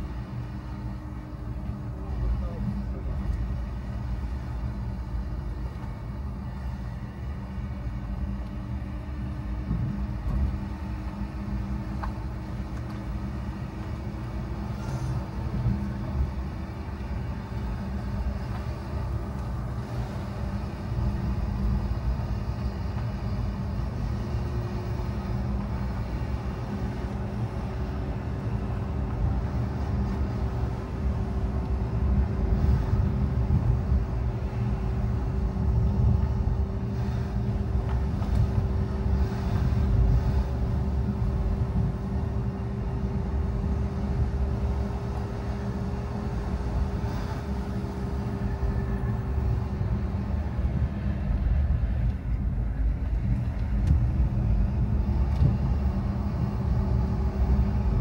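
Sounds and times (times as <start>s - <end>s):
car engine and road rumble: 0.0s - 58.0s
faint steady hum: 0.0s - 58.0s.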